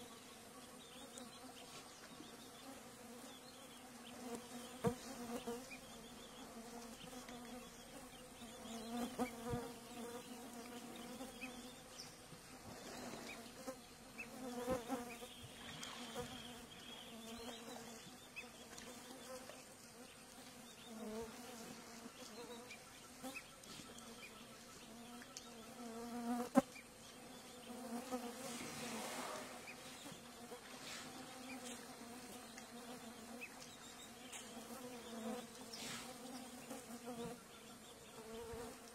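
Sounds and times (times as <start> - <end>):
flying insects buzzing: 0.0 - 38.9.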